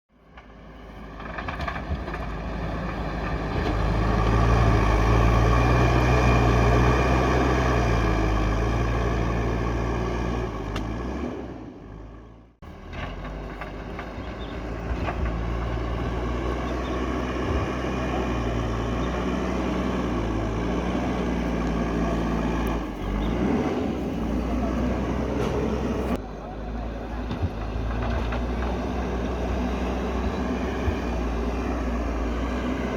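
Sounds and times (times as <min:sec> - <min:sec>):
heavy machine diesel engine running: 0:00.2 - 0:32.9.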